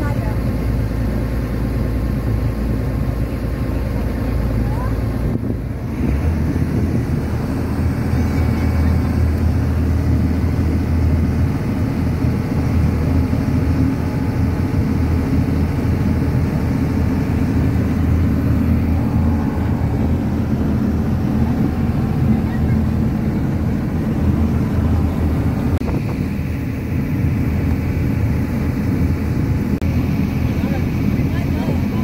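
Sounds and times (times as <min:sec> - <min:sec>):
boat engine drone: 0:00.0 - 0:32.0.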